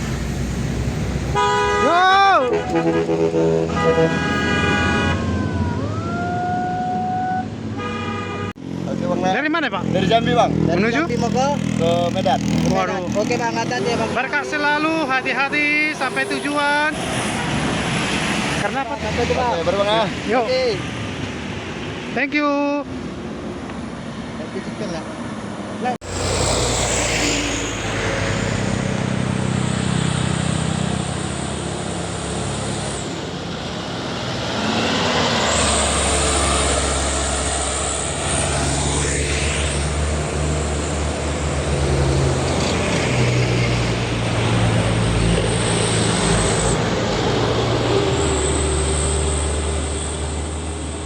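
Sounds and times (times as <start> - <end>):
diesel truck engines labouring: 0.0 - 22.2, 26.0 - 51.0
tyre and road noise: 0.0 - 51.0.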